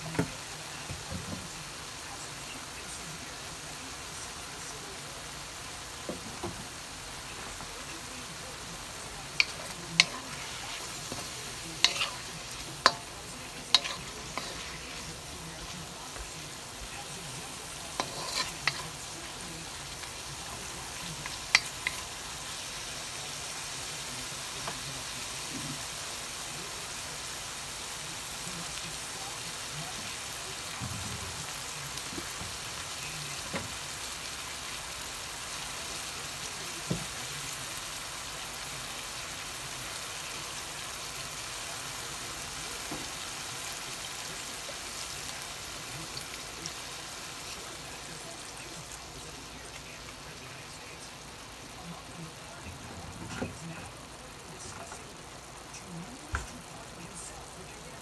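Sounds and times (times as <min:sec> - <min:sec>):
beef sizzling in a wok: 0:00.0 - 0:58.0.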